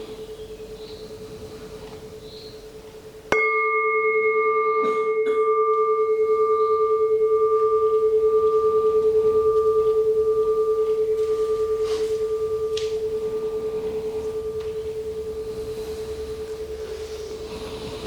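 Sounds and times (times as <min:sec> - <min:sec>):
meditation bell ringing: 0:00.0 - 0:18.0.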